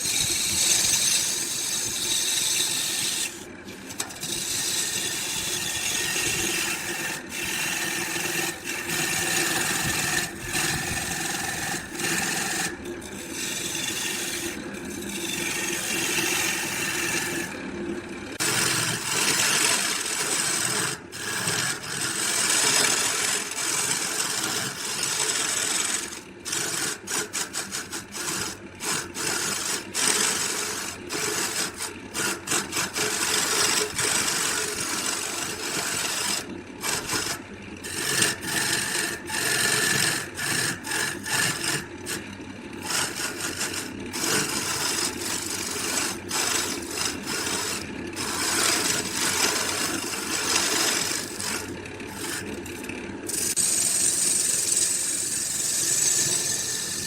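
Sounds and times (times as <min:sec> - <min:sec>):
tool rasping on wood: 0:00.0 - 0:17.6, 0:18.4 - 0:57.0.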